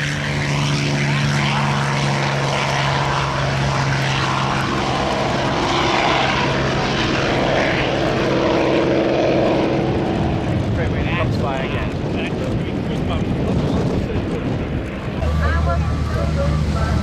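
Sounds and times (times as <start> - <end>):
aircraft engines running: 0.0 - 17.0
piston aircraft engine at full power: 0.0 - 17.0.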